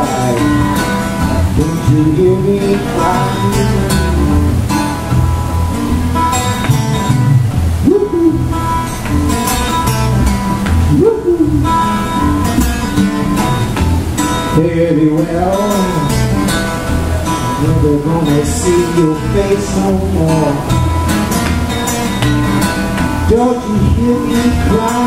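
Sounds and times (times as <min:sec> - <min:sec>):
acoustic guitar blues riff: 0:00.0 - 0:25.0
bending guitar melody notes: 0:00.0 - 0:25.0.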